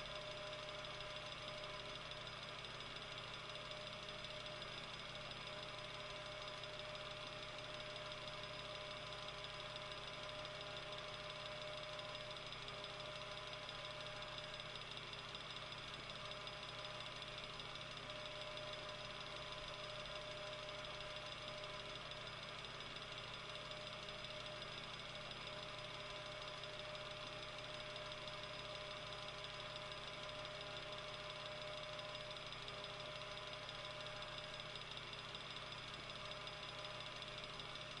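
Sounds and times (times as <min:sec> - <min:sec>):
table fan whirring: 0:00.0 - 0:38.0.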